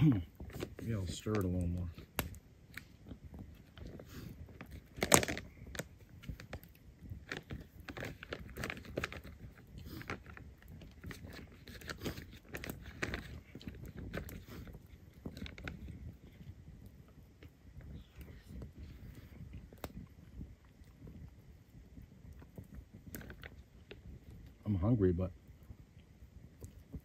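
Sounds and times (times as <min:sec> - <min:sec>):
sharp foil crackle: 0:00.0 - 0:20.4, 0:22.3 - 0:24.7.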